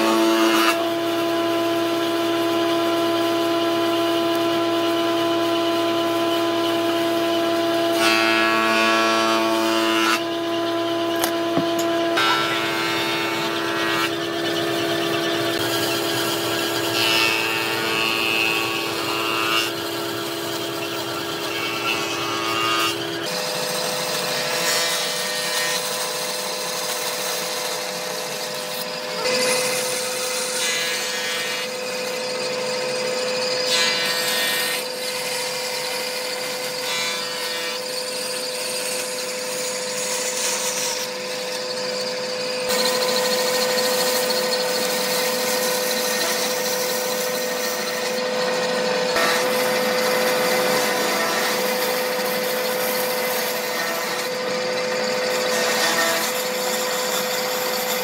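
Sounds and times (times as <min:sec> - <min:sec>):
band saw motor hum: 0:00.0 - 0:58.0
saw blade rasping through wood: 0:00.0 - 0:58.0.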